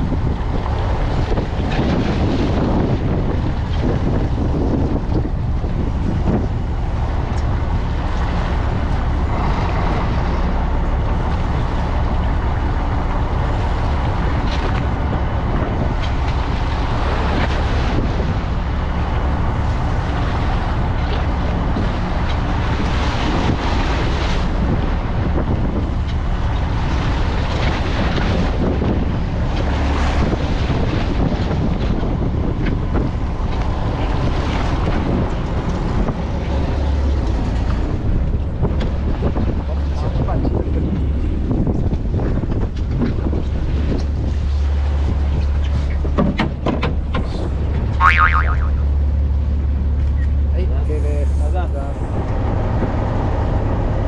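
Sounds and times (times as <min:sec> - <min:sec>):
boat engine humming: 0:00.0 - 0:54.0
water rushing past the hull: 0:00.0 - 0:54.0
wind buffeting the microphone: 0:00.0 - 0:54.0.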